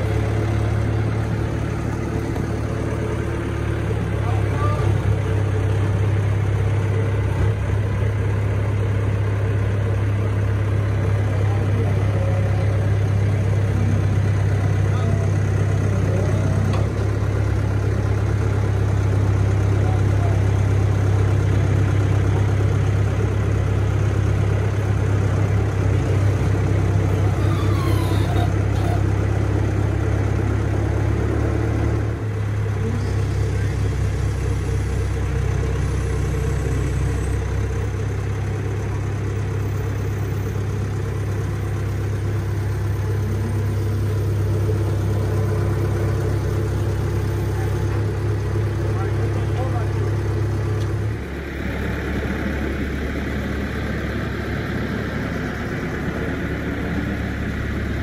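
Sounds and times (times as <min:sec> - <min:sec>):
diesel engine running at low speed: 0:00.0 - 0:58.0.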